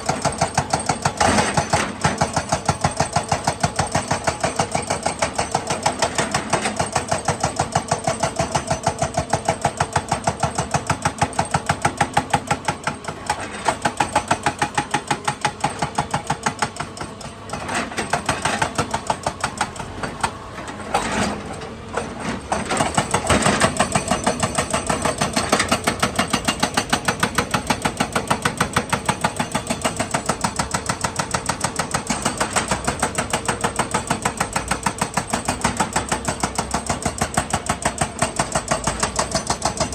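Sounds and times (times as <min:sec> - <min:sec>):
excavator diesel engine clattering: 0:00.0 - 0:39.9.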